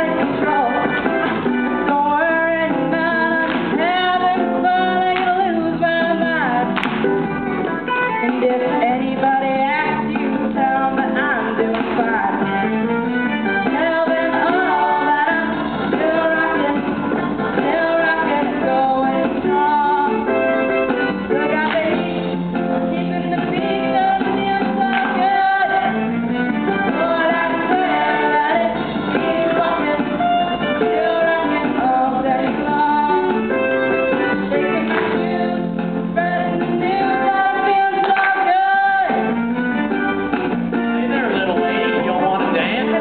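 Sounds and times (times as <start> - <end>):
singing with musical accompaniment: 0.0 - 43.0.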